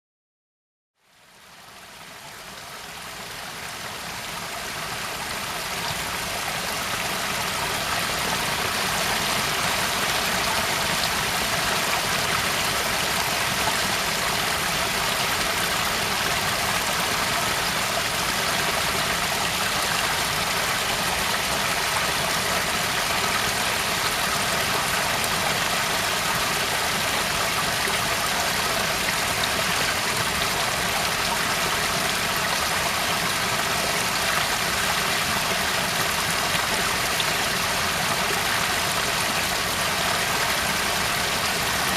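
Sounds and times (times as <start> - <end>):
waterfall rushing: 4.8 - 41.9.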